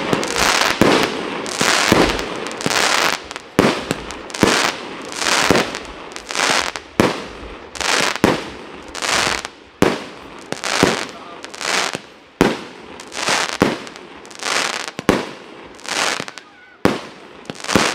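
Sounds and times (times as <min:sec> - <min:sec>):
fireworks bangs: 0:00.0 - 0:17.9
hissing crackle of firework stars: 0:00.0 - 0:17.9.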